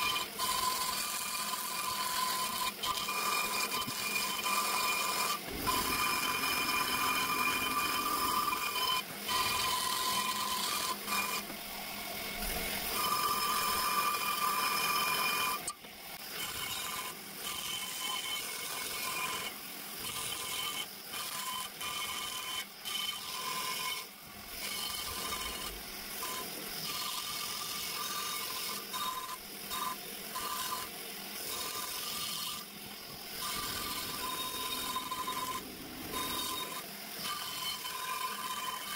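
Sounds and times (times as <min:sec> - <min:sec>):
die grinder whining on metal: 0:00.0 - 0:38.9.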